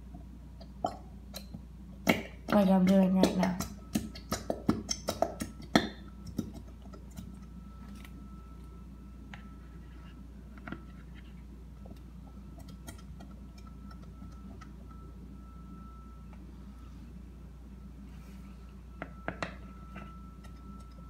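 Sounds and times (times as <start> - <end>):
faint steady whine: 0.0 - 21.0.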